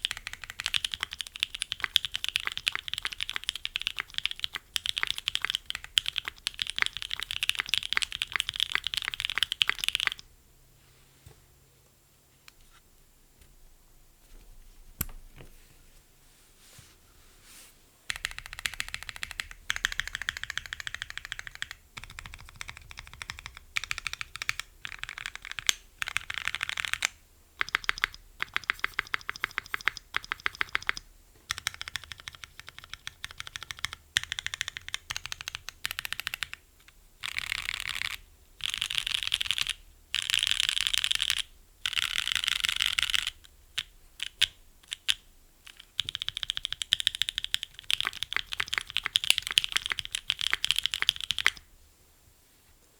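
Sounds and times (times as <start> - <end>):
rapid mechanical keyboard clicks: 0.0 - 10.2, 18.1 - 36.6, 37.2 - 51.7.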